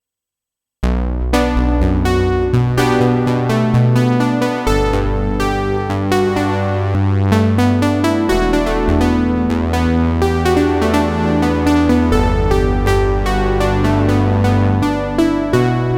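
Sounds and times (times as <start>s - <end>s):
synthesizer plucked notes and chords: 0.8s - 15.9s.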